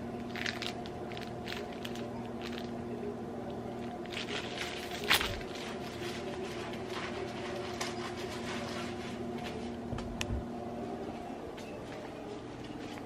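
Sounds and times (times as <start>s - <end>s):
low hum of held tones: 0.0s - 13.0s.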